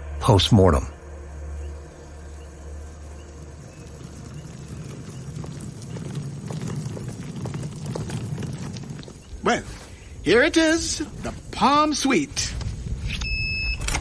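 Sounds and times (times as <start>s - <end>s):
low rumble: 0.0s - 11.6s
low steady hum: 0.0s - 12.6s.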